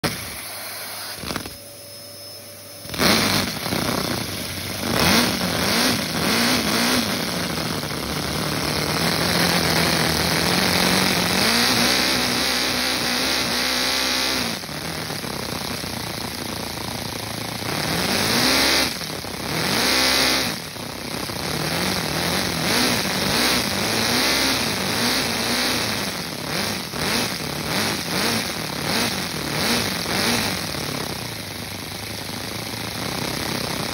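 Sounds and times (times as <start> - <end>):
toy vacuum engine revving: 0.0 - 1.6, 2.8 - 31.4.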